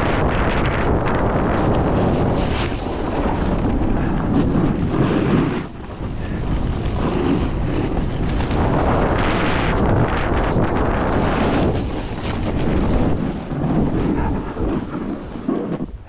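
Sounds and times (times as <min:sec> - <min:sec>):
snowboard scraping across snow: 0:00.0 - 0:16.0
wind rushing over microphone: 0:00.0 - 0:16.0.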